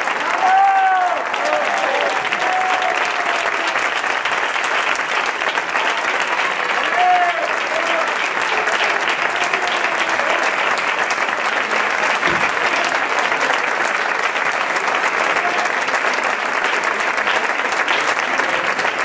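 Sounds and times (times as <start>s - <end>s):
audience applause: 0.0s - 19.0s.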